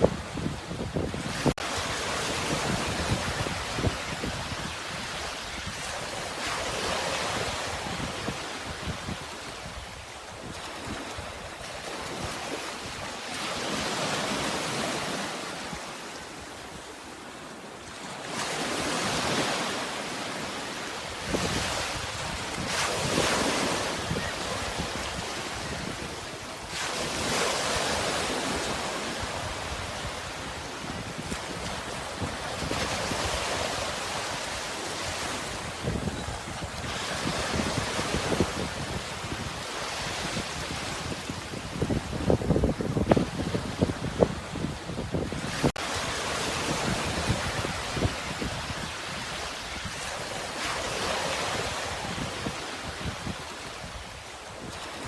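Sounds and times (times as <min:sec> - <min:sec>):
wind noise: 0:00.0 - 0:15.8, 0:21.1 - 0:55.0
sea waves breaking: 0:00.0 - 0:55.0.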